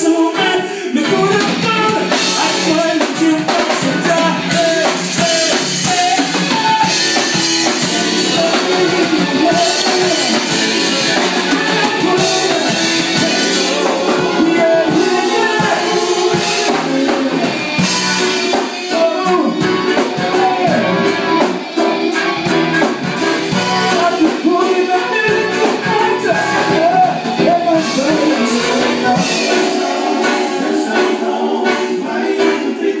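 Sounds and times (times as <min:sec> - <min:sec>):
live band playing: 0:00.0 - 0:33.0
person singing: 0:00.0 - 0:33.0.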